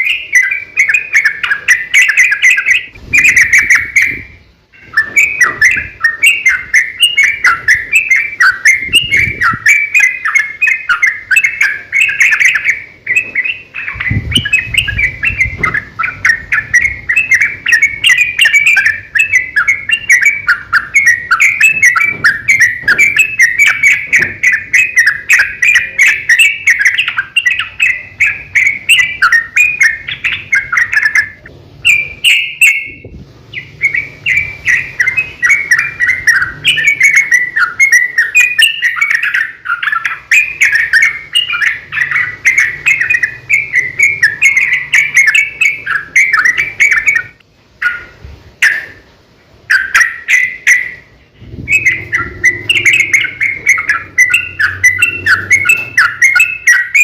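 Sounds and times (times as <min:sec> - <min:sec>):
bird song chattering: 0:00.0 - 0:57.0.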